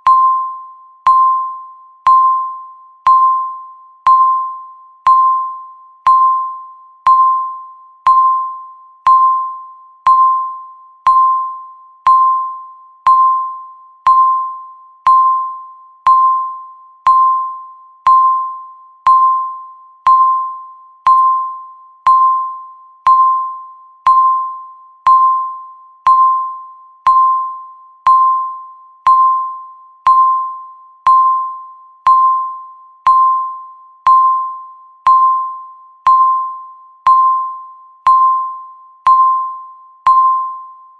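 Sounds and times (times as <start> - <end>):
countdown timer beeps: 0.0 - 40.9.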